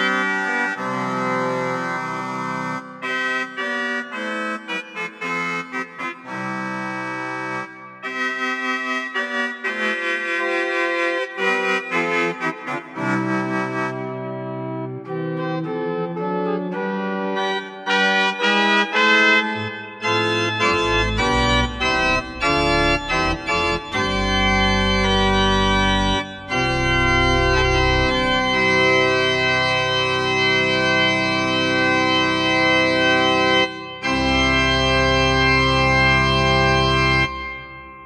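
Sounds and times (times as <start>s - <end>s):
organ playing chords: 0.0s - 38.0s.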